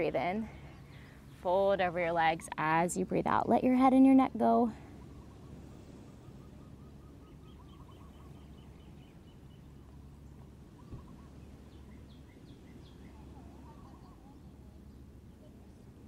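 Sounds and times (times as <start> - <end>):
birds chirping: 0.0 - 3.3, 4.5 - 16.0
low background rumble: 0.0 - 16.0.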